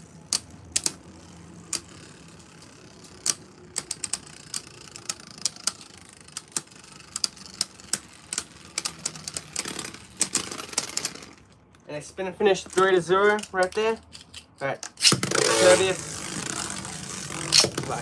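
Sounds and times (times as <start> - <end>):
spinning tops whirring: 0.0 - 11.6, 15.0 - 18.0.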